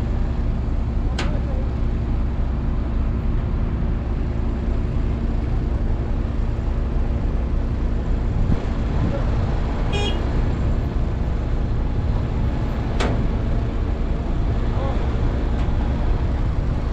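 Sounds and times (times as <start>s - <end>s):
diesel crane engine droning: 0.0s - 16.9s.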